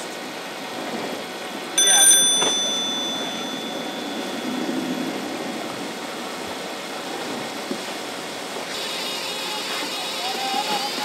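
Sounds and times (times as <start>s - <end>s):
low engine-like drone: 0.0s - 11.0s
fire hoses rushing: 0.4s - 11.0s.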